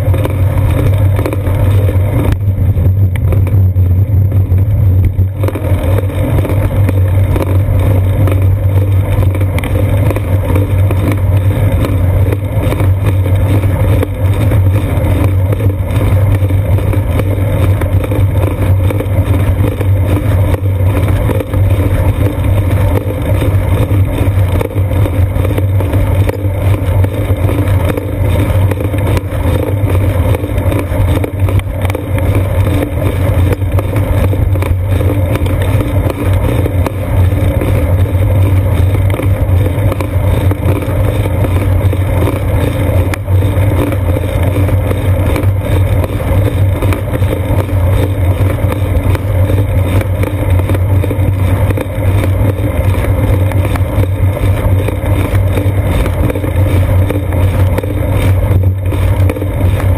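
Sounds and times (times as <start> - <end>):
wind and road rumble: 0.0 - 59.9.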